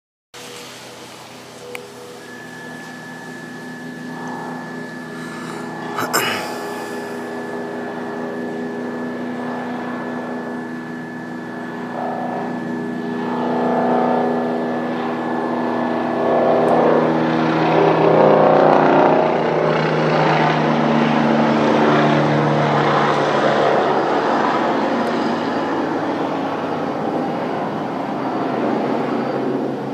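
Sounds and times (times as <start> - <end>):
helicopter flying overhead: 0.4 - 29.9.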